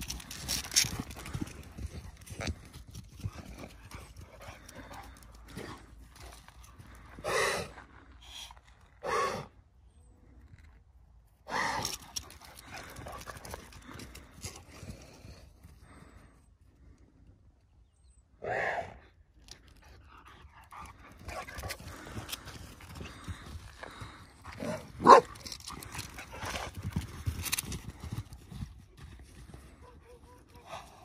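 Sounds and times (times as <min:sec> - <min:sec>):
hooves and paws on ground: 0:00.0 - 0:09.4, 0:10.1 - 0:17.1, 0:19.4 - 0:31.0.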